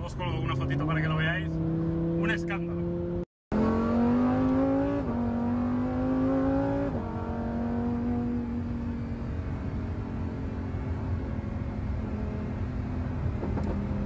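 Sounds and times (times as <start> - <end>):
car engine accelerating: 0.2 - 14.0.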